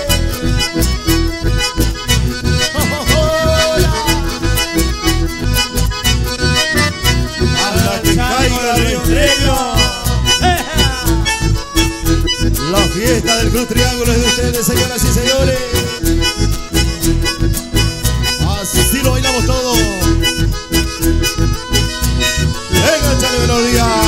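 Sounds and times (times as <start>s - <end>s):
live band playing dance music: 0.0s - 24.0s.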